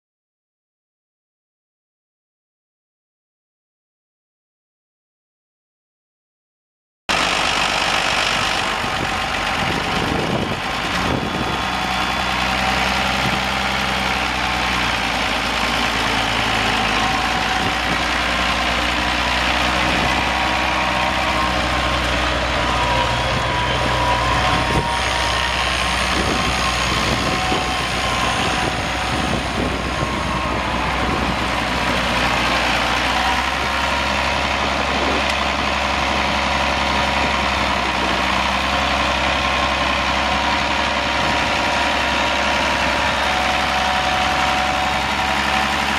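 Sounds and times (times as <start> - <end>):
tractor diesel engine running: 7.1 - 45.9.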